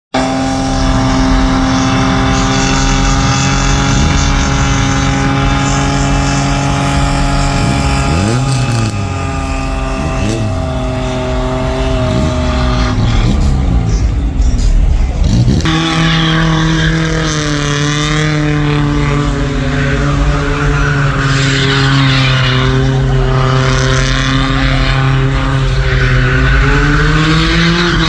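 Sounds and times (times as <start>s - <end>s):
truck engine revving: 0.1s - 28.0s
truck engine idling: 0.4s - 27.0s.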